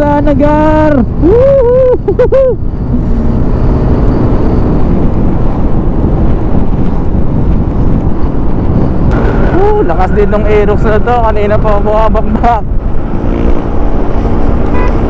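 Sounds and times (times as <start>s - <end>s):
wind rushing: 0.0s - 15.0s.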